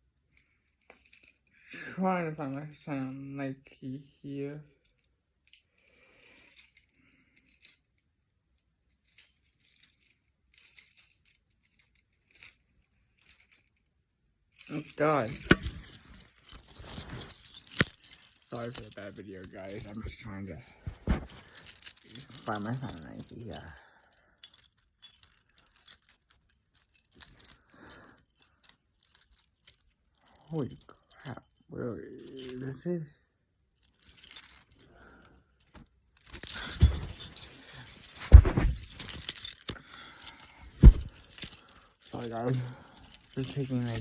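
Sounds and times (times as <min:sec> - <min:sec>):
keys jangling: 0:04.8 - 0:07.9, 0:09.0 - 0:13.9, 0:14.6 - 0:20.1, 0:20.9 - 0:32.8, 0:33.8 - 0:44.0.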